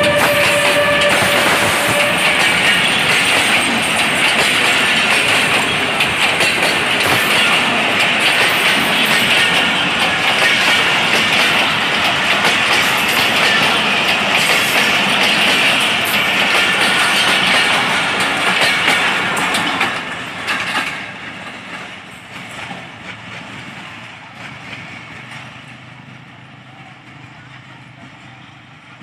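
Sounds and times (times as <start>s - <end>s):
wheels clicking over rail joints: 0.0s - 25.8s
train passing rumble: 0.0s - 29.0s.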